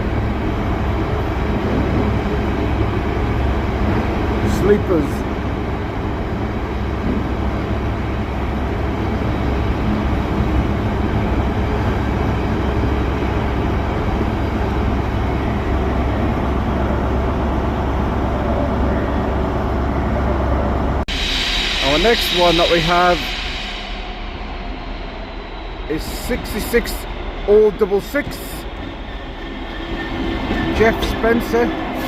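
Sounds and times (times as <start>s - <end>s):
diesel locomotive engine rumble: 0.0s - 32.0s.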